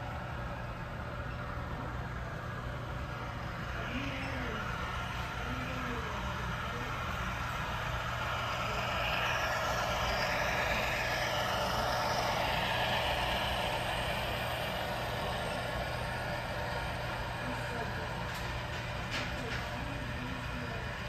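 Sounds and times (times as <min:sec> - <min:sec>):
model train diesel engine drone: 0:00.0 - 0:21.0.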